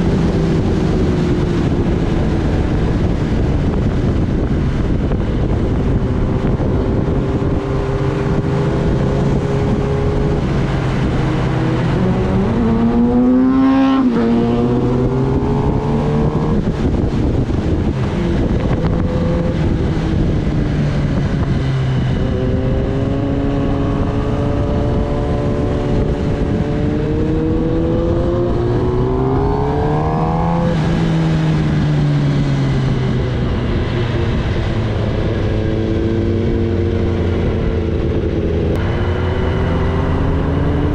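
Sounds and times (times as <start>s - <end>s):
motorcycle engine revving: 0.0s - 40.9s
wind rushing over microphone: 0.0s - 40.9s.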